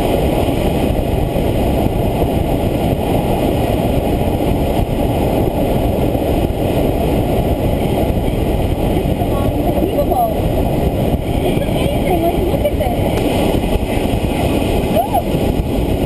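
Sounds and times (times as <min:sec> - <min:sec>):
air rushing past glider: 0:00.0 - 0:16.0.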